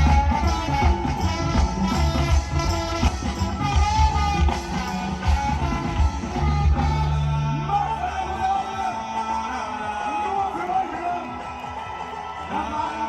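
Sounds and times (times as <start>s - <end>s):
pop-rock music with drums: 0.0s - 13.0s.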